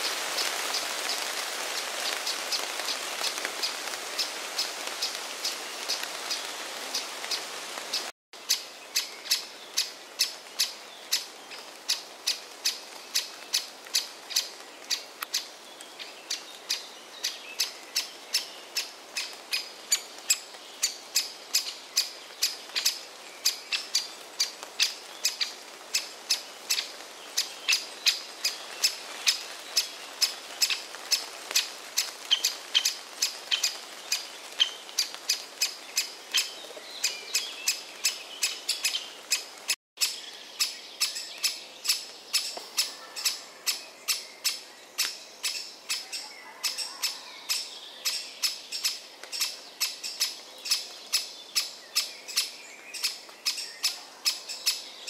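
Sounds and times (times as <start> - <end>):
woodpecker chick chirping: 7.9 - 54.8.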